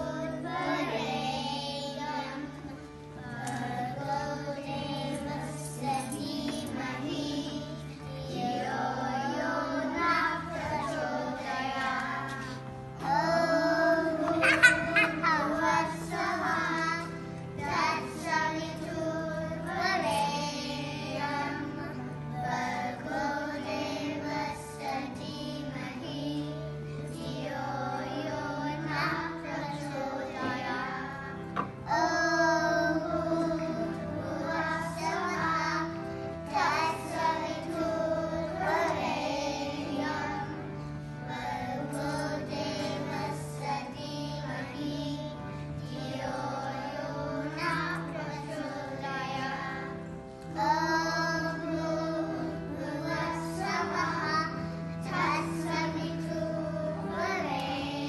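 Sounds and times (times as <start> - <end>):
children singing: 0.0 - 58.0
instrumental accompaniment: 0.0 - 58.0.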